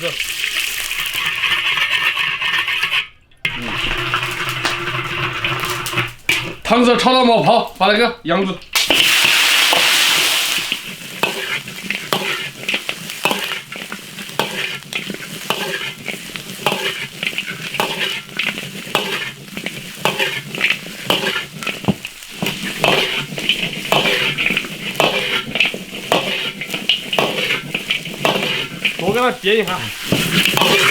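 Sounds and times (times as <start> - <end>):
meat sizzling in a wok: 0.0 - 1.8, 3.5 - 8.0, 8.8 - 30.9
spatula scraping and clanking wok: 0.0 - 7.9, 8.7 - 30.9.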